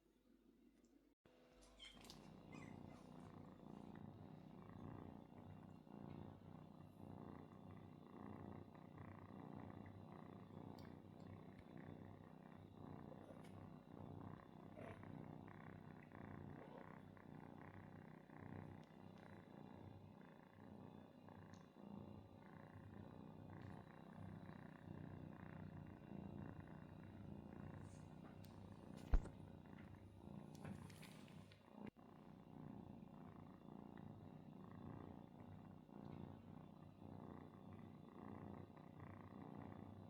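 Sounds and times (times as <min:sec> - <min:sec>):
cat purring: 0:01.6 - 0:40.0.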